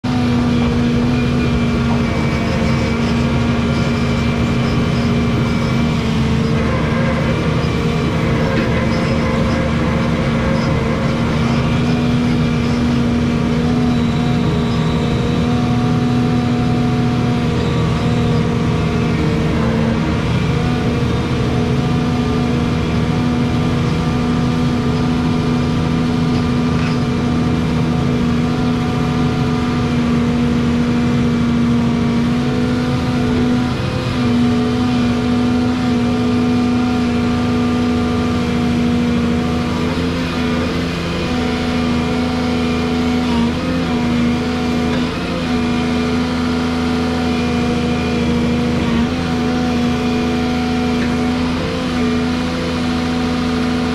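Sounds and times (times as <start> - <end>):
excavator diesel engine running: 0.0 - 53.9
steady whine: 0.0 - 53.9.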